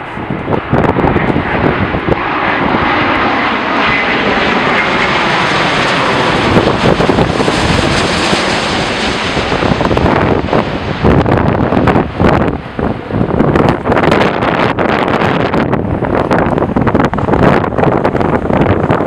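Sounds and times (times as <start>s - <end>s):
jet plane passing overhead: 0.0s - 19.0s
wind buffeting microphone: 0.0s - 19.0s.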